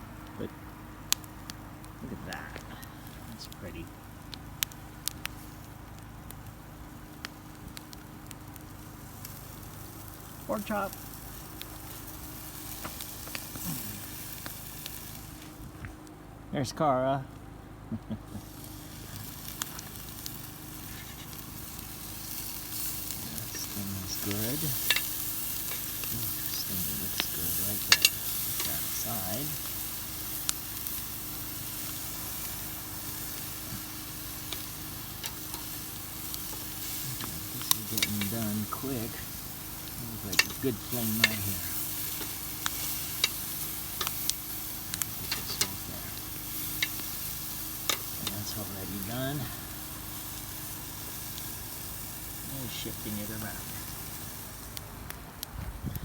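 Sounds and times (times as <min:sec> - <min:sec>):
campfire crackling: 0:00.0 - 0:56.0
low hiss: 0:00.0 - 0:56.0
meat sizzling over fire: 0:00.0 - 0:56.0.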